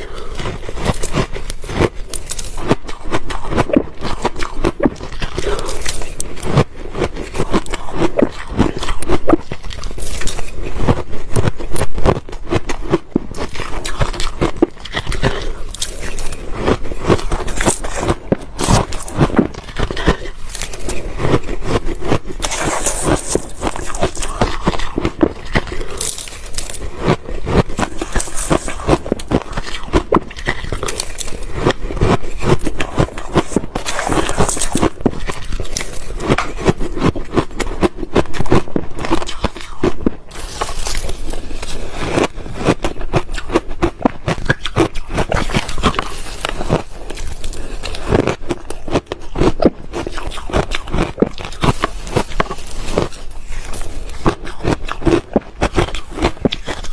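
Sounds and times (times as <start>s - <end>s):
ice being chewed: 0.0s - 56.9s.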